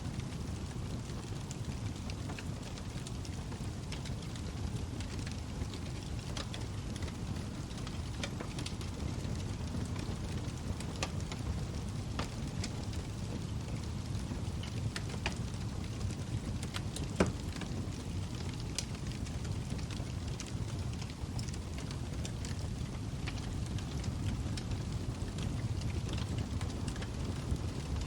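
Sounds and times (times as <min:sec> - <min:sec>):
fire crackling and popping: 0:00.0 - 0:28.0
log fire rumbling: 0:00.0 - 0:28.0.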